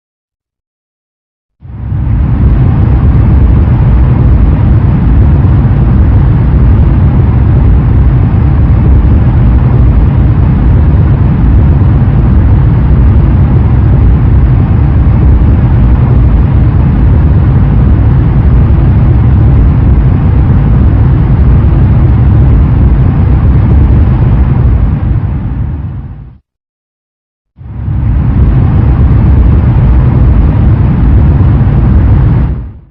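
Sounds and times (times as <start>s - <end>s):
airplane engine drone: 1.6s - 26.4s, 27.6s - 32.9s.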